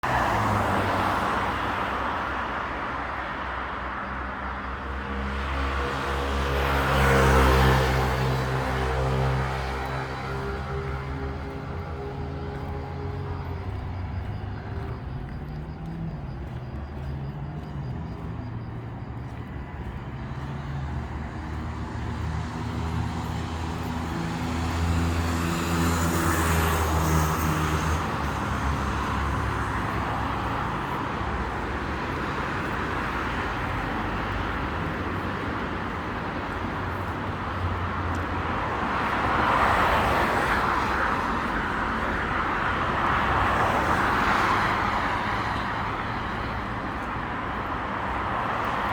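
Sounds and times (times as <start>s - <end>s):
cars passing by: 0.0s - 48.9s.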